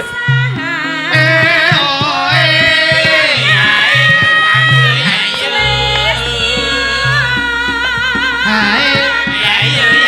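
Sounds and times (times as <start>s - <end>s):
bass and drum pattern: 0.0s - 10.0s
held melody with wavy vibrato: 0.0s - 10.0s.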